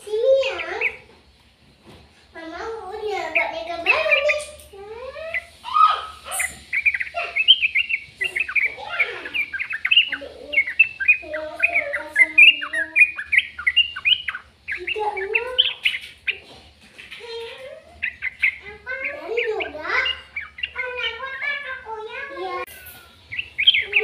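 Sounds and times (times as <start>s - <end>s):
bird chirping: 0.0s - 1.1s, 2.5s - 24.0s.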